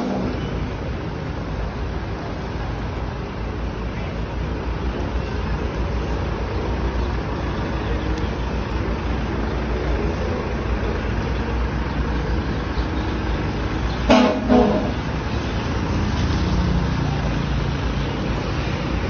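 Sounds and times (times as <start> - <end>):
traffic engines rumbling: 0.0 - 19.0.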